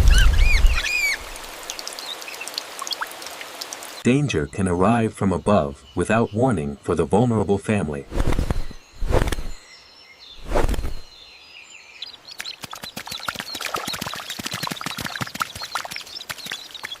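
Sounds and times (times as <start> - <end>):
birds chirping: 0.0 - 3.0, 3.8 - 17.0.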